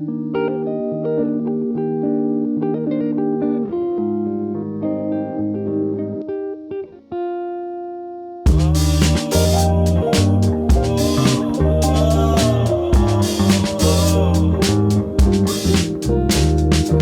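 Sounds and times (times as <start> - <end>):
guitar music: 0.0 - 17.0.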